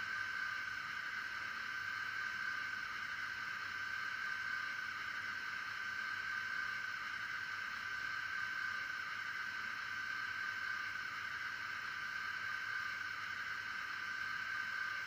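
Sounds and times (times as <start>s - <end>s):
model locomotive hum and hiss: 0.0s - 15.0s.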